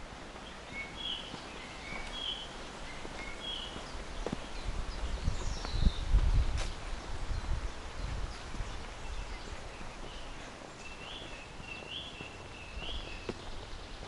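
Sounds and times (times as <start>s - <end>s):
footsteps on forest path: 0.0s - 14.0s.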